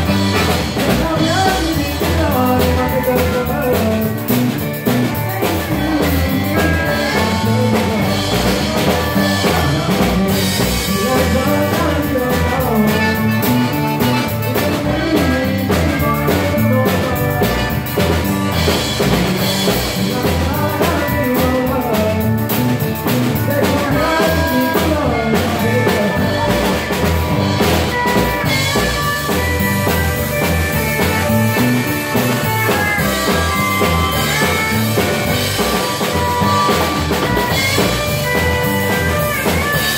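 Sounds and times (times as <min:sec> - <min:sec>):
live band playing dance music: 0:00.0 - 0:39.9
button accordion: 0:04.5 - 0:19.8, 0:22.3 - 0:39.9.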